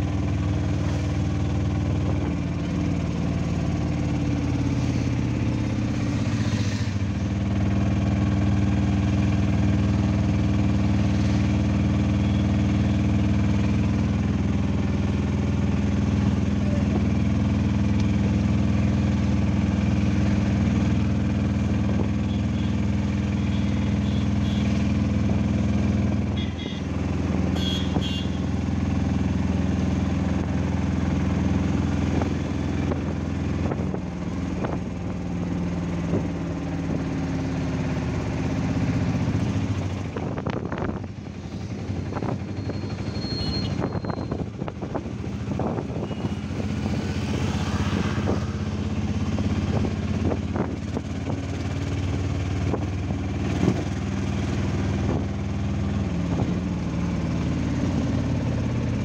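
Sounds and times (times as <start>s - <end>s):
auto-rickshaw engine running: 0.0s - 59.0s.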